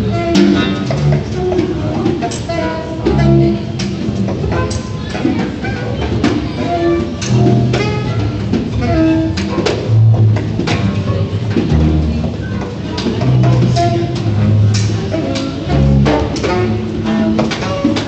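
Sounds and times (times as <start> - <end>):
saxophone notes: 0.0 - 5.0, 6.6 - 18.0
double bass notes: 0.0 - 18.0.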